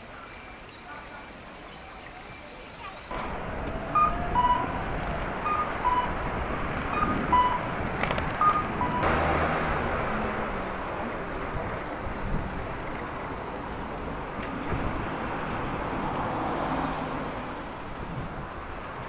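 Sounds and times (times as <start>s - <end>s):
road noise: 0.0s - 19.0s
rush of wind: 3.1s - 19.0s.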